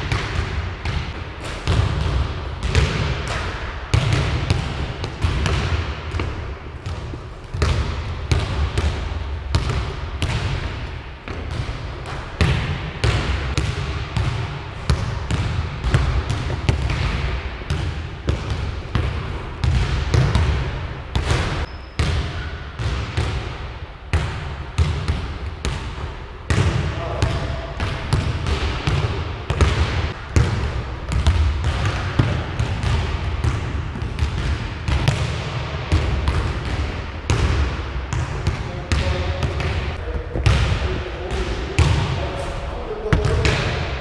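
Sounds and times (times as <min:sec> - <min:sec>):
basketballs bouncing on gym floor: 0:00.0 - 0:42.4, 0:43.0 - 0:44.0.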